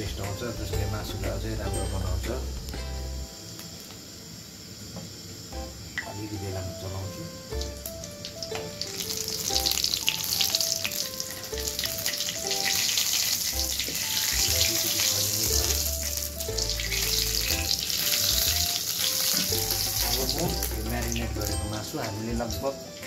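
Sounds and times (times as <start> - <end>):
spices sizzling in oil: 0.0 - 23.0.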